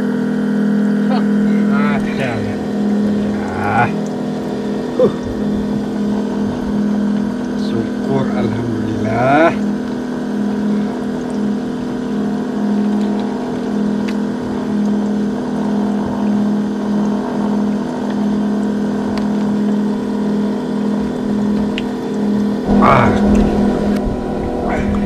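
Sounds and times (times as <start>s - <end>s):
small engine humming: 0.0s - 25.0s.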